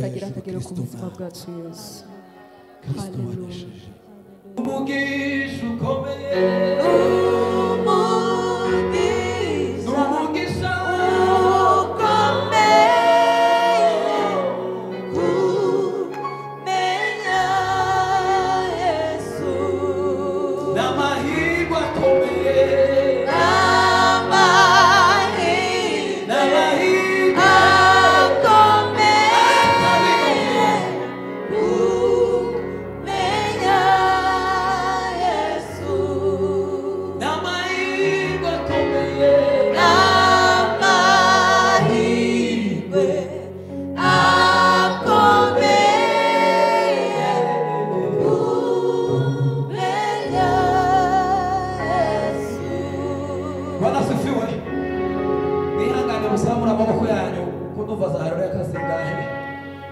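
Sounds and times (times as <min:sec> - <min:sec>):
gospel choir singing: 0:01.8 - 0:59.9.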